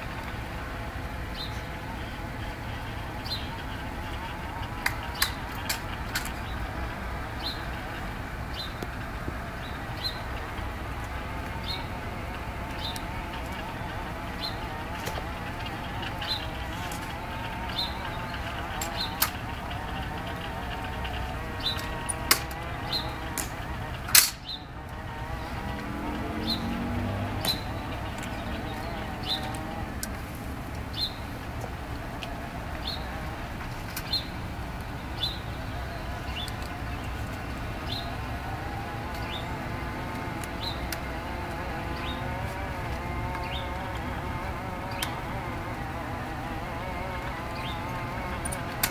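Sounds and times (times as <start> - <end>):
bird chirping: 0.0 - 48.9
low steady rumble: 0.0 - 48.9
wavering buzz: 0.0 - 48.9
sharp clicks: 8.6 - 35.6, 36.2 - 48.9.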